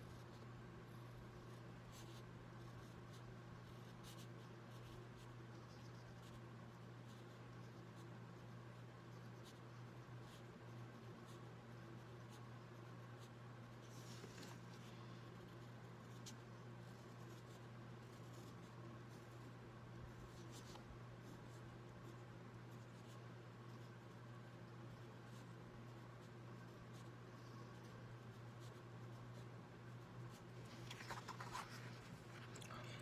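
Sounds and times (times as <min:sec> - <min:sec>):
steady low hum: 0:00.0 - 0:33.0
pen scratching on paper: 0:01.5 - 0:14.8, 0:15.4 - 0:19.5, 0:20.1 - 0:24.2, 0:24.9 - 0:29.5, 0:30.3 - 0:32.8.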